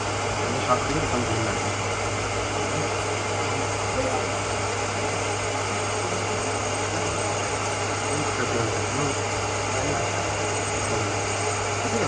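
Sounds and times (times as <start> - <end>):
low hum: 0.0 - 12.0
workshop machinery running: 0.0 - 12.0.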